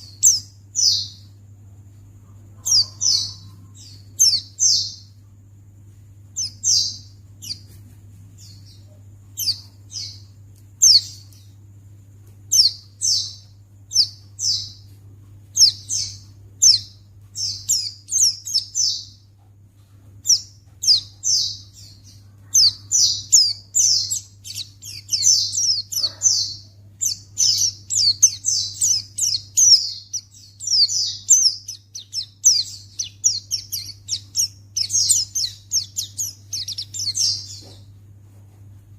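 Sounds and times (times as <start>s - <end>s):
bird chirping: 0.0s - 38.0s
faint low hum: 0.0s - 38.9s.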